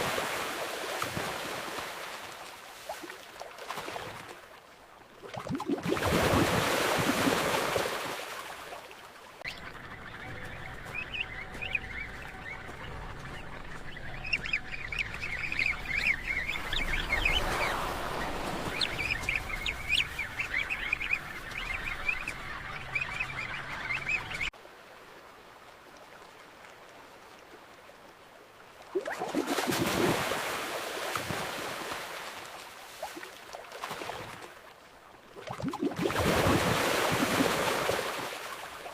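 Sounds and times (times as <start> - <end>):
rush of water: 0.0 - 9.5, 13.2 - 38.9.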